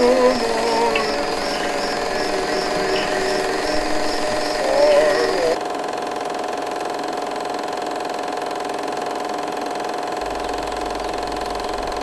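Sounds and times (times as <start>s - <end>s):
small motor humming and rattling: 0.0s - 12.0s.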